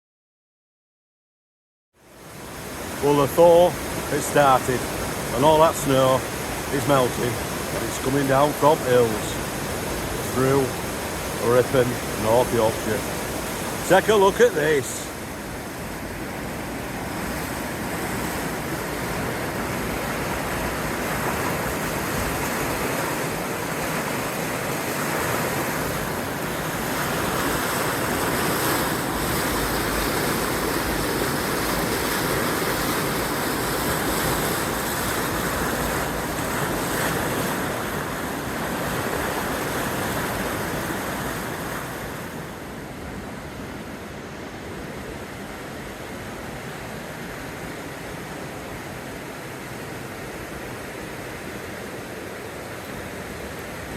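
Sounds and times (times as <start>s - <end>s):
river water rushing: 2.0s - 53.9s.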